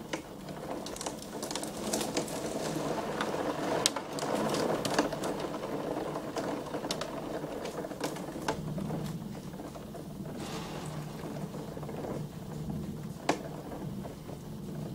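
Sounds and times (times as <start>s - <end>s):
rain and hail on window: 0.0s - 14.9s.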